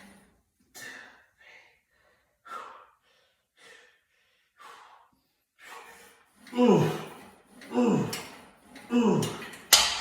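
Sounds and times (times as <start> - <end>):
man breathing heavily: 0.0 - 9.6.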